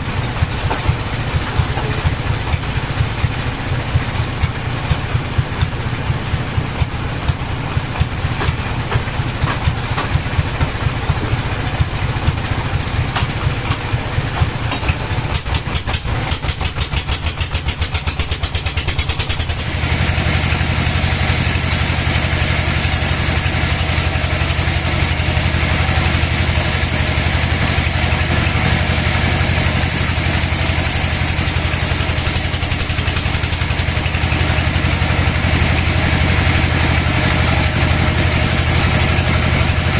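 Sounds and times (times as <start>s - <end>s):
sawmill engine pulsing: 0.0s - 39.9s.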